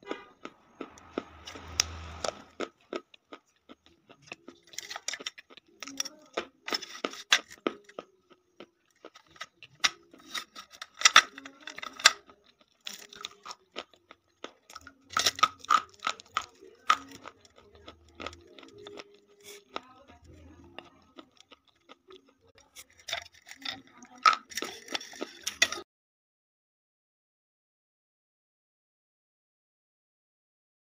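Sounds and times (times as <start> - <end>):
chalk being chewed: 0.0 - 25.8.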